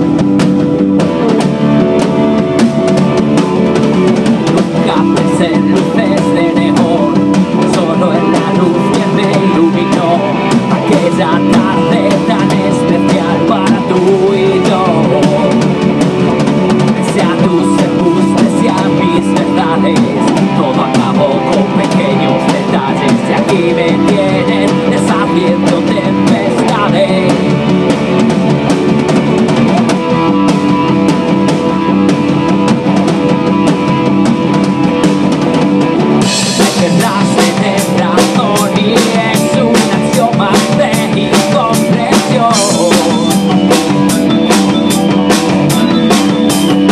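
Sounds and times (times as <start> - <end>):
drum kit: 0.0 - 46.9
guitar: 0.0 - 46.9
rock band playing: 0.0 - 46.9.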